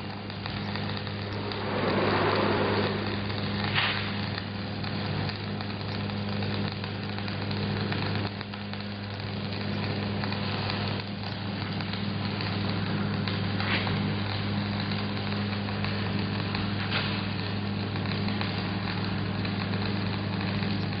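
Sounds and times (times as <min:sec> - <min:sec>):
steady low hum: 0:00.0 - 0:21.0
welding arc crackling and sizzling: 0:00.0 - 0:21.0.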